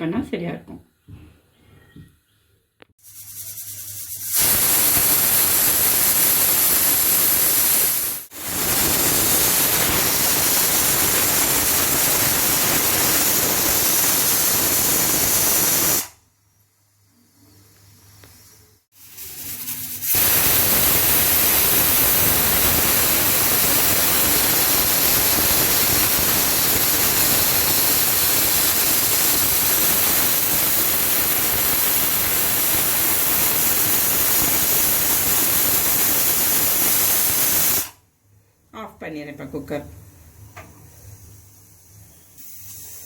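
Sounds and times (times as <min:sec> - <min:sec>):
pressure cooker steam hissing: 0:03.0 - 0:16.2, 0:17.1 - 0:38.0, 0:41.0 - 0:43.0.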